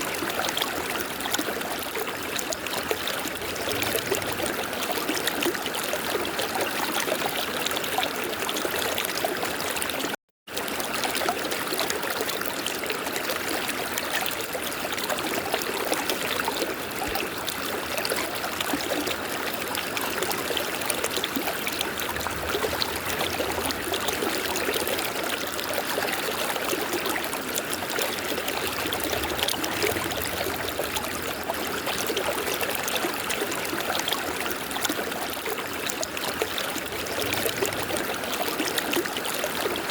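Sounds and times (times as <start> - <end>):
river water flowing: 0.0 - 9.9, 10.6 - 39.9.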